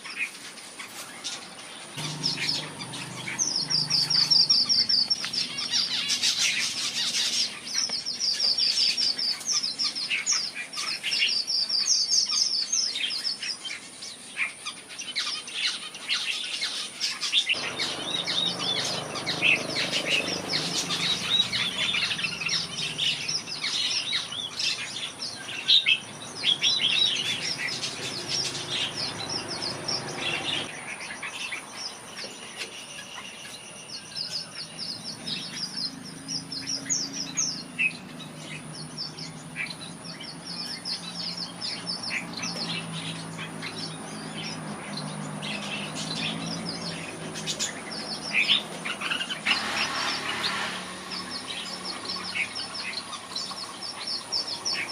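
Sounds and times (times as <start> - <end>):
bulbuls chirping and singing: 0.0 - 54.9.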